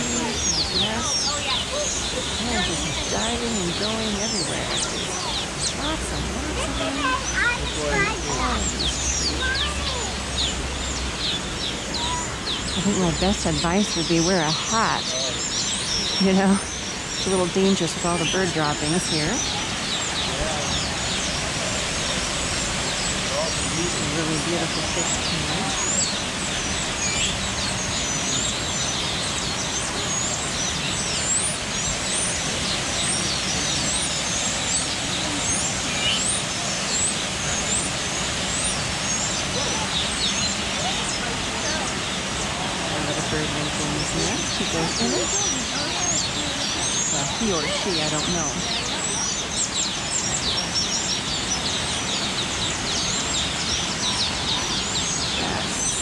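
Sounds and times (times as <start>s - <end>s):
rushing background noise: 0.0s - 56.0s
weaver birds chattering: 0.0s - 56.0s.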